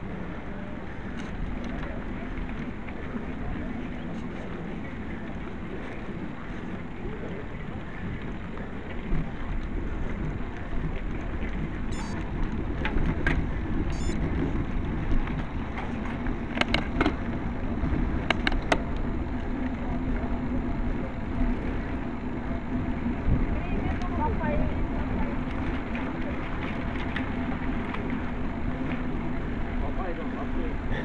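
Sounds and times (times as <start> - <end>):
wind over microphone: 0.0 - 31.0.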